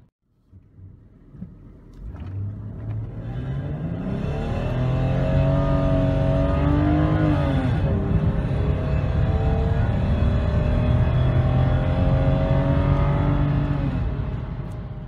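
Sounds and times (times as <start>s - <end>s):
car engine accelerating: 0.5s - 15.0s.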